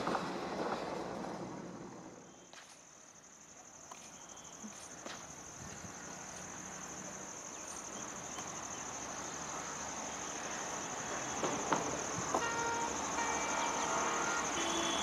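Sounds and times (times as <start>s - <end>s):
insects chirring: 0.8s - 15.0s.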